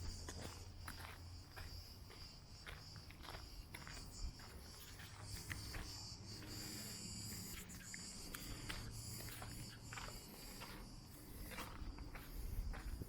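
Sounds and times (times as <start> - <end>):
footsteps on outdoor path: 0.0 - 13.0.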